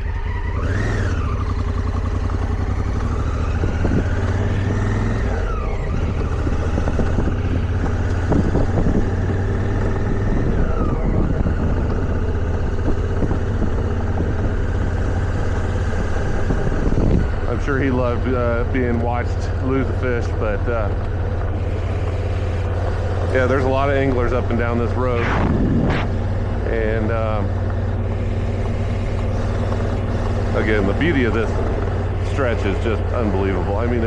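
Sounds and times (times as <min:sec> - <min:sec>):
motorcycle engine shifting up: 0:00.0 - 0:34.0.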